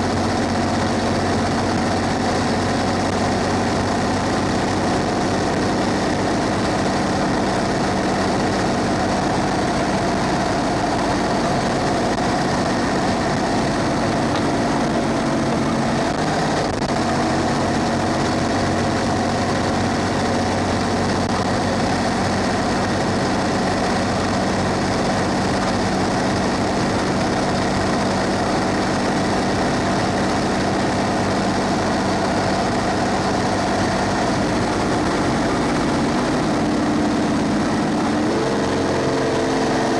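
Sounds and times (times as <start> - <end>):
bus diesel engine humming: 0.0 - 39.9
road noise: 0.0 - 39.9.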